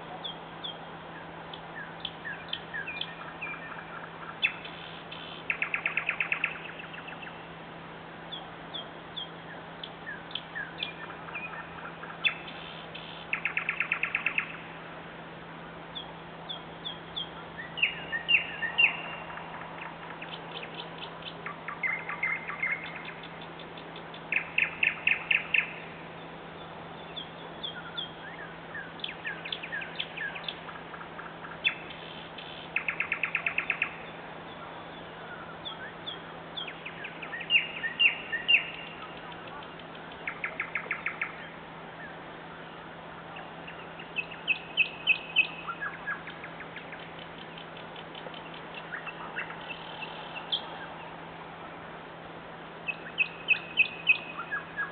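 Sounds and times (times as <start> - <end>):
nightingale singing: 0.0 - 7.5, 8.2 - 14.8, 15.8 - 51.2, 52.7 - 54.9.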